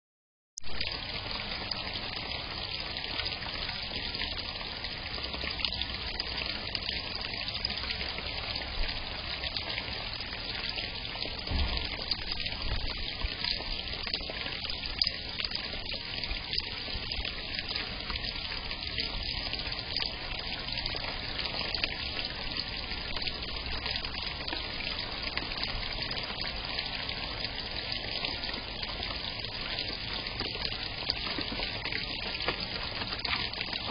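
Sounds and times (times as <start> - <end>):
water trickling in a pond: 0.6 - 33.9.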